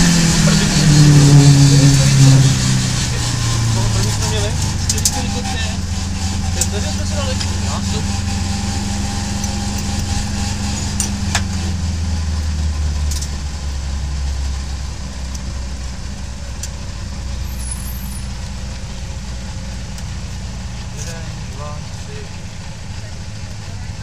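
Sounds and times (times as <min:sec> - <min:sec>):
car engine at low revs: 0:00.0 - 0:24.0.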